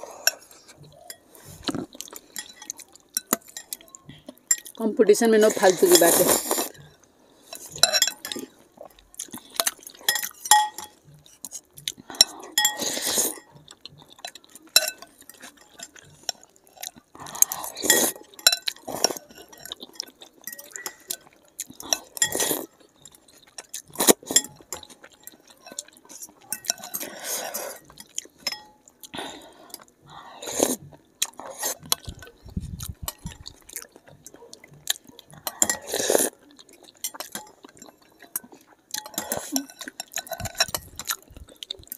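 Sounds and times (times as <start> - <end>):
soup slurping and chewing: 0.0 - 4.8, 5.4 - 41.9
cutlery clinking on glass bowls: 0.2 - 4.8, 5.6 - 29.0, 33.1 - 41.9.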